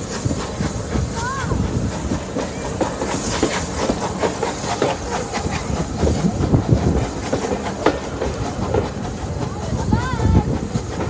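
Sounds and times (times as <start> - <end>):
train rumbling on rails: 0.0 - 11.0
wheels clicking over rail joints: 0.0 - 11.0.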